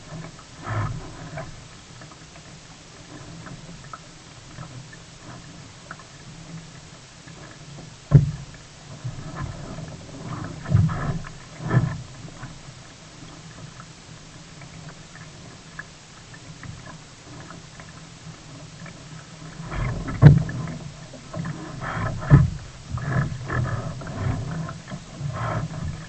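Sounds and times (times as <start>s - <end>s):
paddle splashes against hull: 0.0s - 26.0s.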